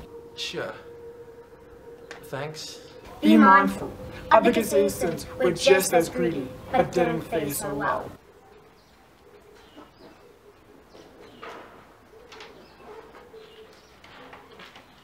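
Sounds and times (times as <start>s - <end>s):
dove cooing: 0.0s - 14.8s.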